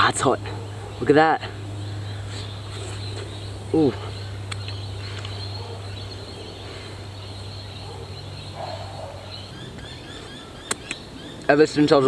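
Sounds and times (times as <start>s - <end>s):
insects trilling: 0.0s - 12.0s
low steady hum: 0.0s - 12.0s.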